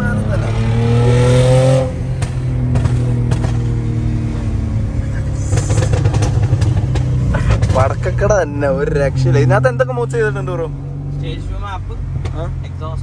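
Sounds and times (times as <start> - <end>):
car engine revving: 0.0 - 13.0
exhaust pops and crackles: 0.0 - 13.0.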